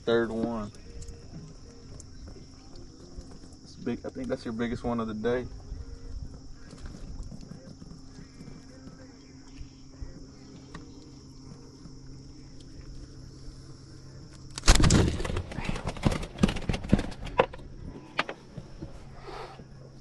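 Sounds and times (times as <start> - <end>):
faint background hum: 0.0 - 20.0.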